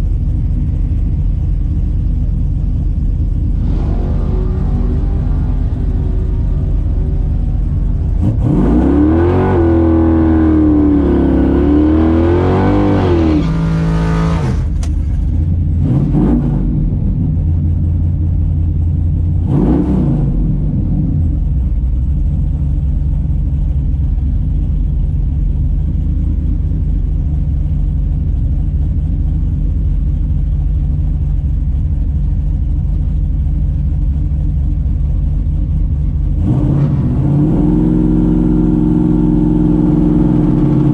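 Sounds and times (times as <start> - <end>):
drag car engine revving and idling: 0.0 - 40.9.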